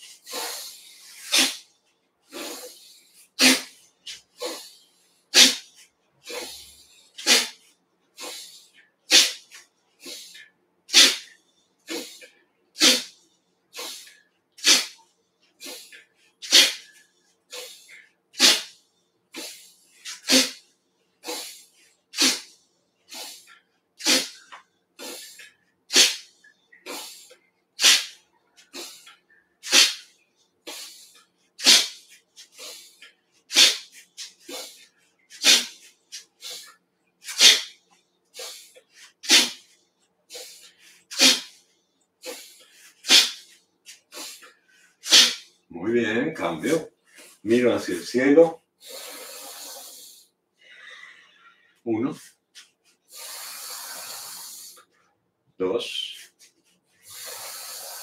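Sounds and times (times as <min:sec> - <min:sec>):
person exhaling forcefully through nose: 0:00.0 - 0:01.7, 0:02.3 - 0:03.8, 0:04.4 - 0:07.6, 0:08.2 - 0:15.0, 0:15.6 - 0:37.8, 0:38.4 - 0:39.7, 0:40.3 - 0:41.6, 0:42.2 - 0:45.5, 0:48.8 - 0:51.2, 0:53.1 - 0:54.9, 0:57.0 - 0:58.0.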